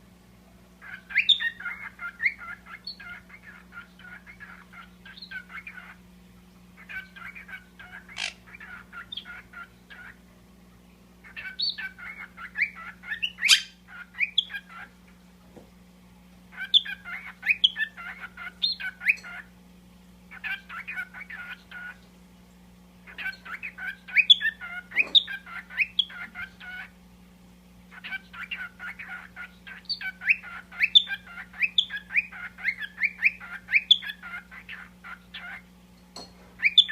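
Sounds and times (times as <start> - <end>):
parrots chattering and chirping: 0.8 - 6.1, 6.7 - 10.3, 11.2 - 15.0, 16.5 - 19.5, 20.3 - 22.1, 23.0 - 27.0, 27.8 - 36.9.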